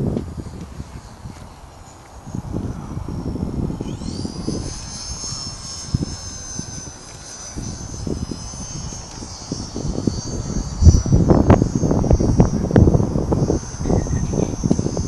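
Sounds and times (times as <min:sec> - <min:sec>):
airplane engine rumble: 0:00.0 - 0:15.0
engine whine spooling up: 0:00.0 - 0:15.0.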